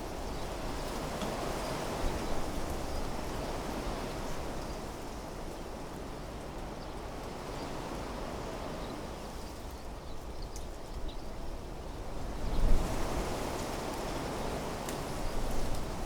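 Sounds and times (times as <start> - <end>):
wind rustling foliage: 0.0 - 16.0.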